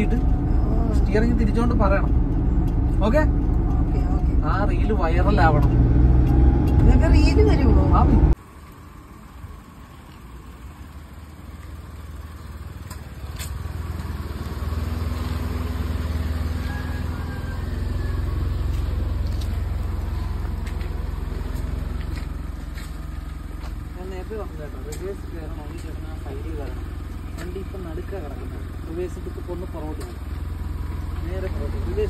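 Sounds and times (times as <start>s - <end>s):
car engine hum: 0.0s - 32.0s.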